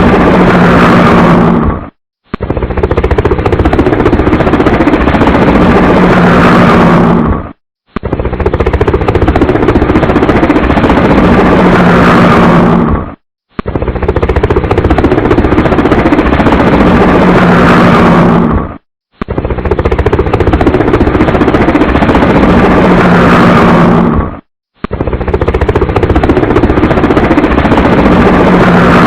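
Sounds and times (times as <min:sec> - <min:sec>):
helicopter rotor chop: 0:00.0 - 0:29.0.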